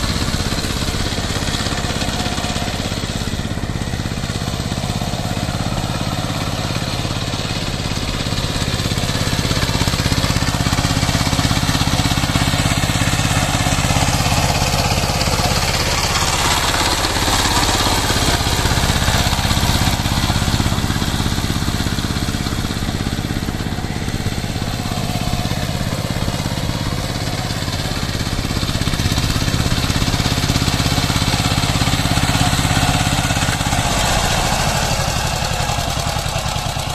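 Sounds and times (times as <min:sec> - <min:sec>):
diesel engine running under load: 0:00.0 - 0:36.9.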